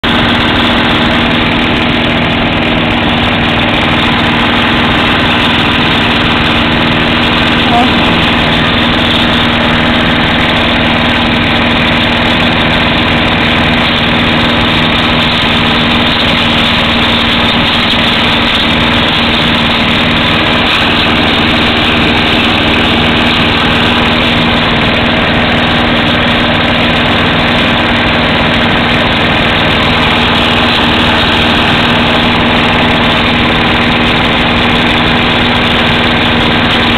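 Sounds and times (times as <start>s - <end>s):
lawnmower engine running: 0.0s - 36.9s.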